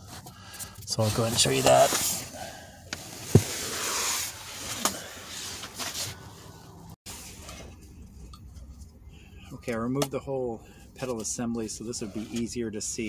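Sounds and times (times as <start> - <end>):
hands and tools rustling scraping: 0.0 - 10.0, 10.7 - 13.0.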